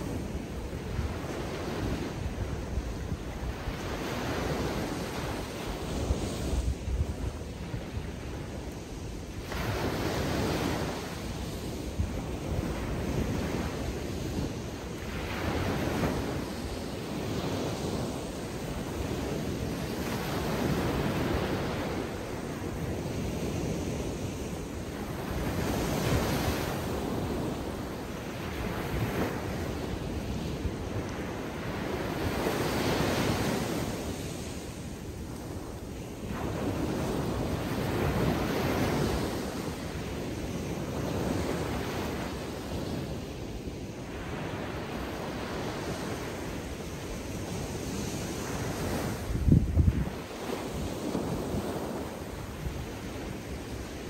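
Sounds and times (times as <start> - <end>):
surf breaking on a beach: 0.0 - 54.0
wind buffeting the microphone: 0.0 - 54.0.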